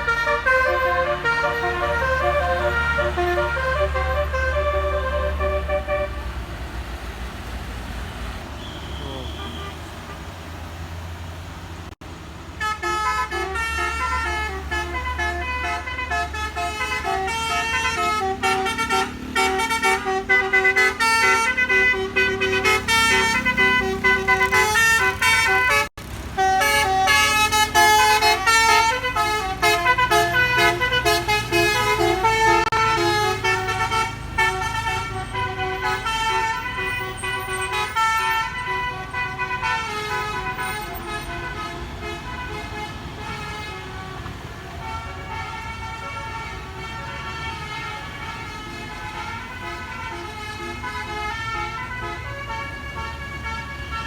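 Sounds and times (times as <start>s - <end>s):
bus horn playing fast melody: 0.0s - 6.5s, 8.6s - 10.4s, 12.5s - 54.0s
bus engine running: 0.0s - 54.0s.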